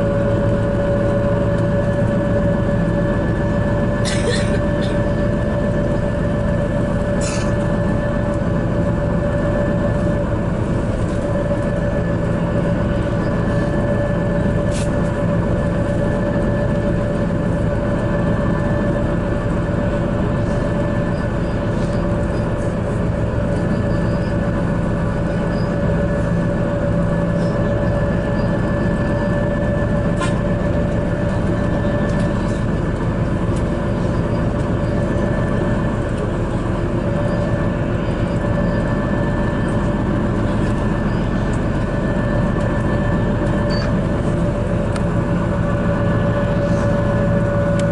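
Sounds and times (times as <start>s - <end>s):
bus engine and road drone: 0.0s - 47.9s
constant whine: 0.0s - 47.9s.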